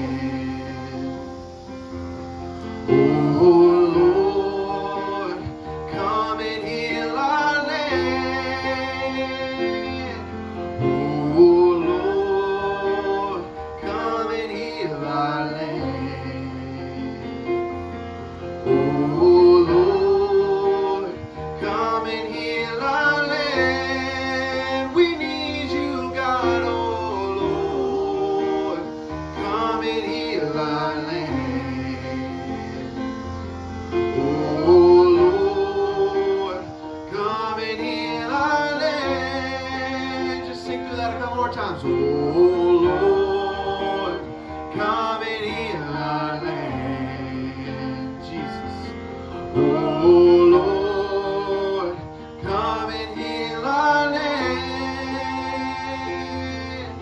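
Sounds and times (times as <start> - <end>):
accompanying instruments: 0.0 - 57.0
guitar: 0.0 - 57.0
singers: 0.0 - 57.0.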